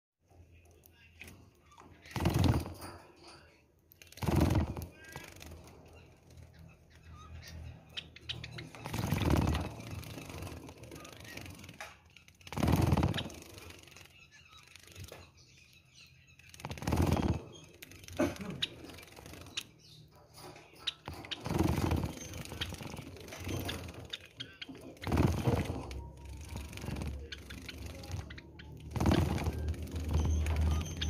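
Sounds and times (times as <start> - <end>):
high bird chirps: 3.9 - 31.0.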